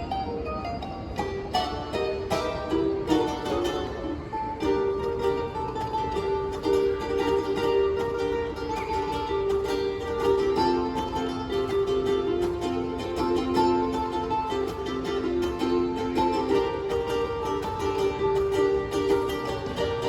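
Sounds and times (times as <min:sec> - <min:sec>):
ukulele playing: 0:00.0 - 0:20.0.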